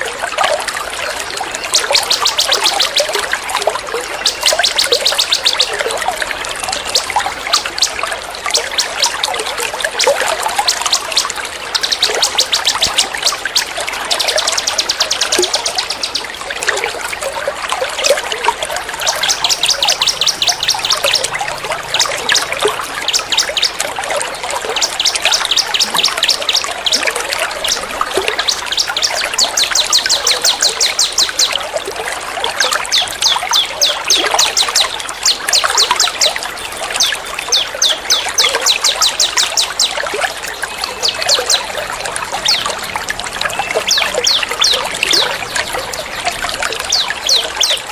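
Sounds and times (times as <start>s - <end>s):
running water trickling: 0.0s - 47.9s
songbirds rattling trills: 0.0s - 47.9s.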